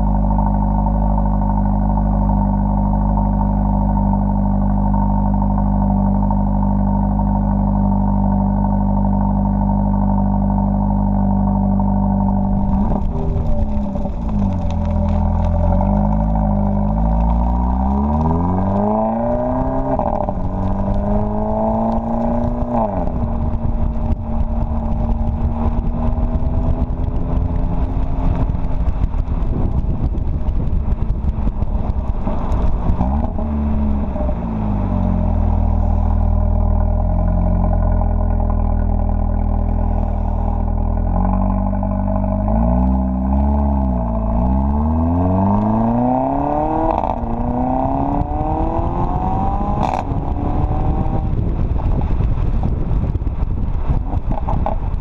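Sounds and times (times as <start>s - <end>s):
car engine idling and revving: 0.0s - 55.0s
exhaust pops and crackles: 0.0s - 55.0s.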